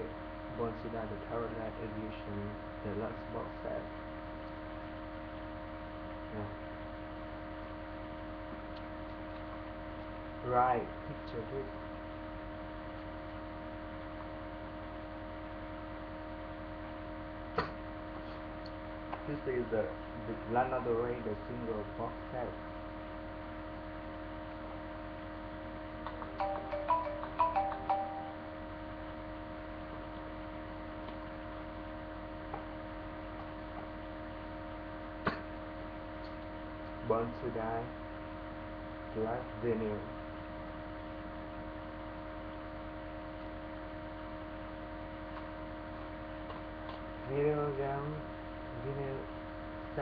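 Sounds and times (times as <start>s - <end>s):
electrical hum with hiss: 0.0s - 50.0s.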